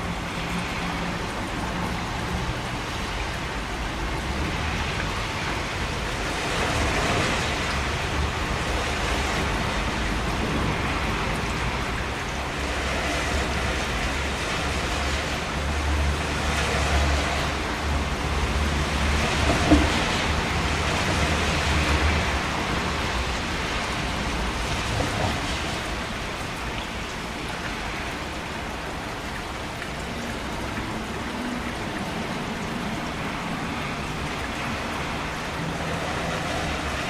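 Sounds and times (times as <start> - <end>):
heavy rain hiss: 0.0 - 37.0.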